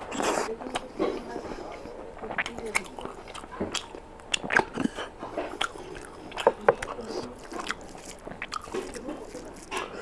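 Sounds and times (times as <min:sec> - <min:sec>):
person chewing on a bone: 0:00.0 - 0:10.0.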